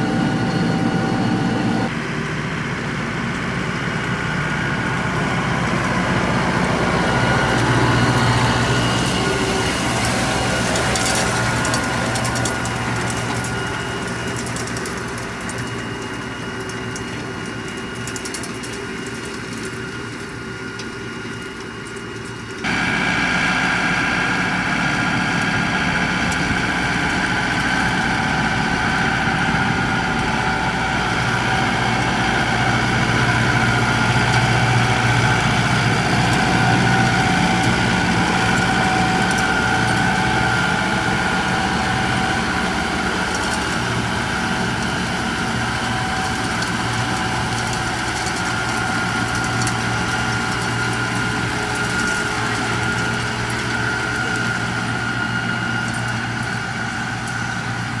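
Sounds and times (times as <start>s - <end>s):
loud engine humming: 0.0s - 58.0s
tractor engines running: 0.0s - 58.0s.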